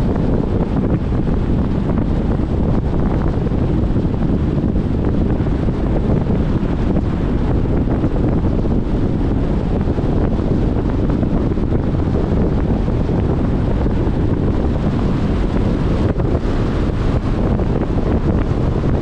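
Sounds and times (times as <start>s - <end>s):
car road rumble: 0.0s - 19.0s
wind buffeting microphone: 0.0s - 19.0s.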